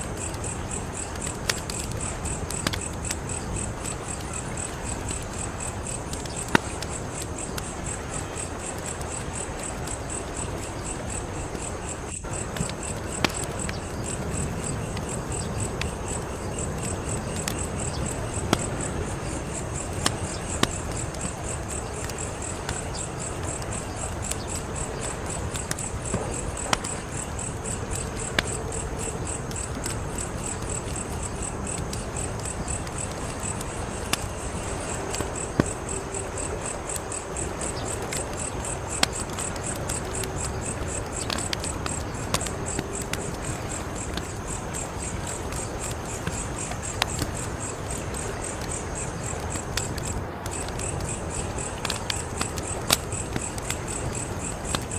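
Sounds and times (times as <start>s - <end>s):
crickets chirping: 0.0s - 54.9s
fire crackling and popping: 0.0s - 54.9s.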